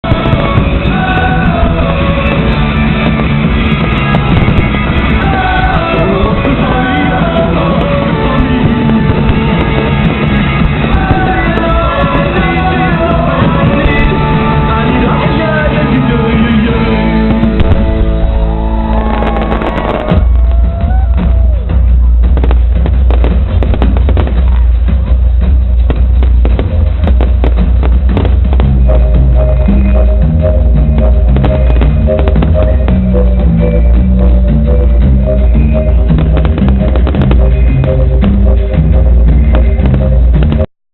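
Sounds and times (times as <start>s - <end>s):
rock song over sound system: 0.0s - 24.1s, 25.0s - 40.7s
deep boom: 0.0s - 40.7s.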